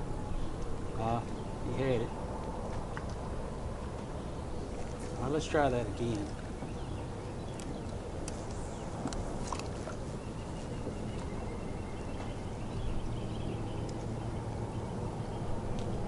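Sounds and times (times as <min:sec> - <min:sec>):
lake water noise with low hum: 0:00.0 - 0:16.0.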